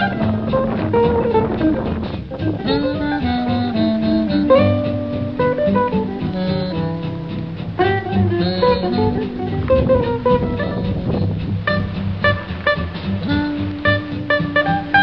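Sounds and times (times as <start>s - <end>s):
bass line: 0.0s - 15.0s.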